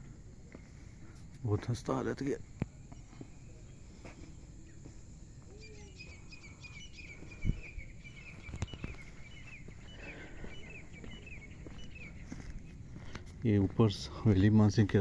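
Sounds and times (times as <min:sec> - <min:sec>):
bird chirping: 0:00.5 - 0:15.0.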